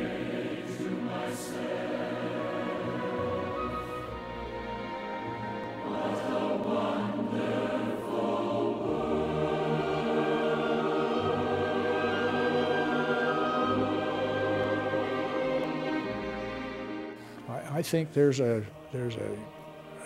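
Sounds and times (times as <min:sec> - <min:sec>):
choir singing long notes: 0:00.0 - 0:17.5, 0:18.2 - 0:20.0.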